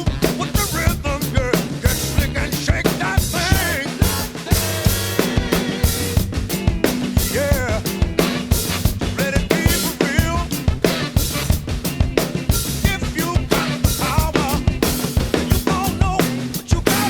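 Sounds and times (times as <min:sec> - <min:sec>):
drum kit playing funk groove: 0:00.0 - 0:17.0
funk track with bass line: 0:00.0 - 0:17.0.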